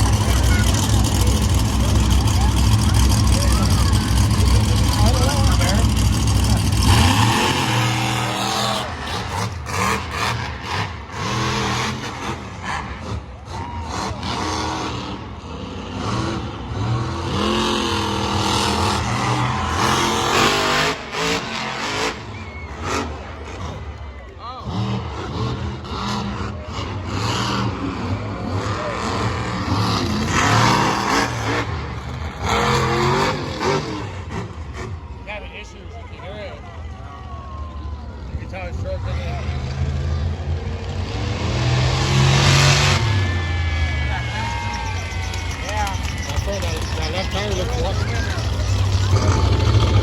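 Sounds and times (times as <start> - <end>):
monster truck engine revving: 0.0 - 50.0.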